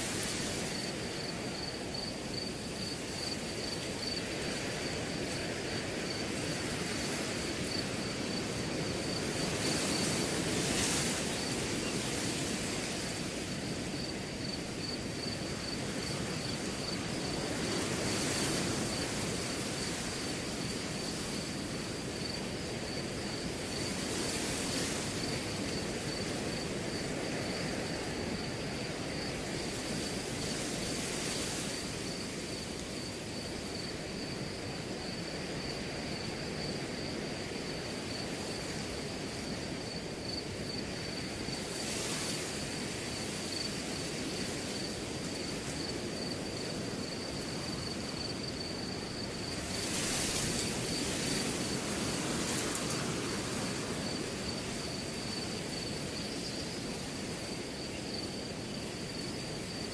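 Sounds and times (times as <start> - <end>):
crickets chirping: 0.0 - 59.9
wind blowing through grass: 0.0 - 59.9.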